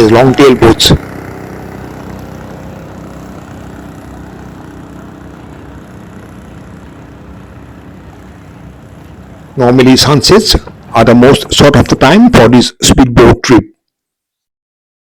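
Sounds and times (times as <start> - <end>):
boat engine droning: 0.0 - 12.5.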